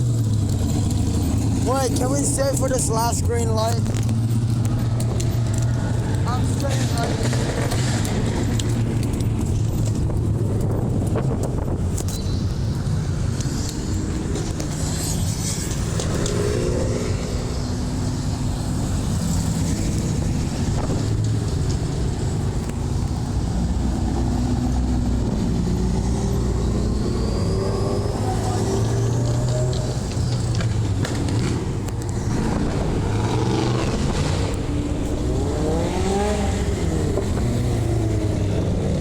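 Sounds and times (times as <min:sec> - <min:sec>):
car engines rumbling: 0:00.0 - 0:39.0
cars accelerating past: 0:00.0 - 0:39.0.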